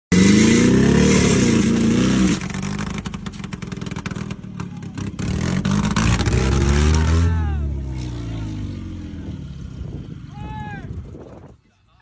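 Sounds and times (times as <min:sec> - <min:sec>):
car engine revving then idling: 0:00.1 - 0:10.0.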